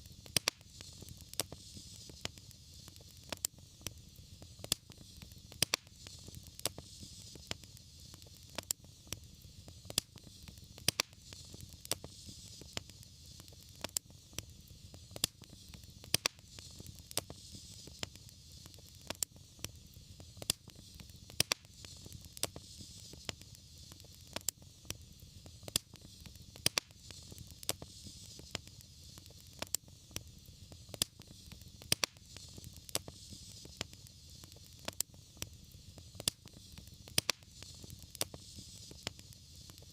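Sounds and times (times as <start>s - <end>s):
fireplace fire crackling: 0.0s - 39.9s
sharp pops of fire: 0.0s - 39.9s.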